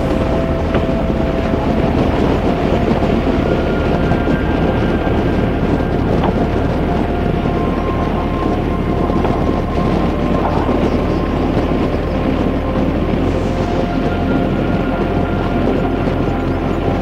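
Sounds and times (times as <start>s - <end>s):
motorcycle engine rumble: 0.0s - 17.0s
wind rushing over microphone: 0.0s - 17.0s.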